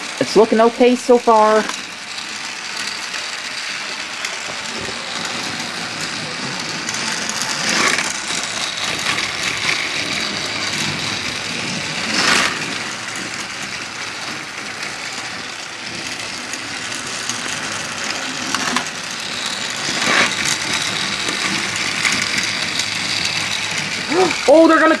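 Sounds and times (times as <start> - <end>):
toy train motors whirring: 0.0 - 25.0
toy train wheels rattling on track: 0.0 - 25.0.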